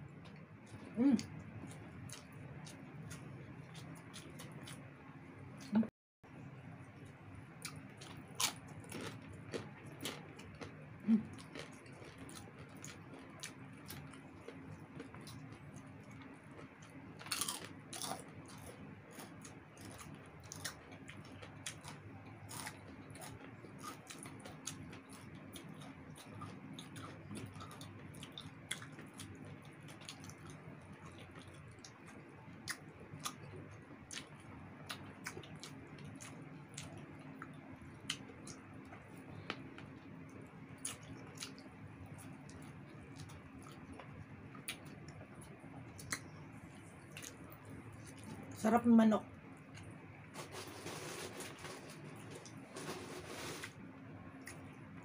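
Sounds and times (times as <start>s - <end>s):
chewing and crunching food: 0.0s - 5.9s, 6.8s - 55.0s
faint low hum: 0.0s - 55.0s.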